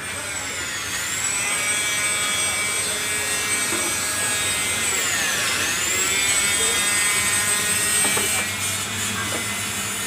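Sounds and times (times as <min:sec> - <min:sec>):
high-pitched motor whine: 0:00.0 - 0:10.0.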